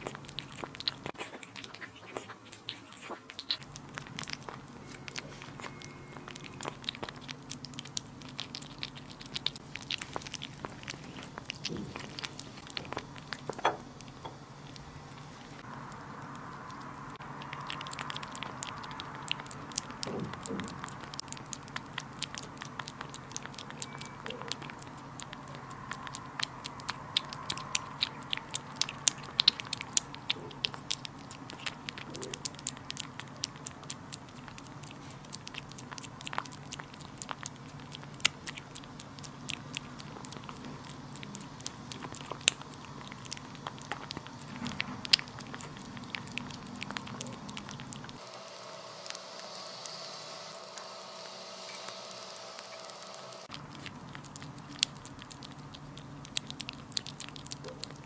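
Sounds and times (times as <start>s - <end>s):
kitten chewing and licking: 0.0s - 58.0s.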